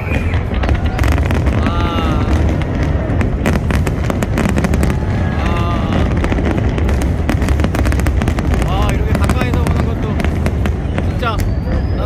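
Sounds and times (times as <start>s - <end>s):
deep rumble: 0.0s - 12.0s
fireworks crackling and banging: 0.0s - 12.0s.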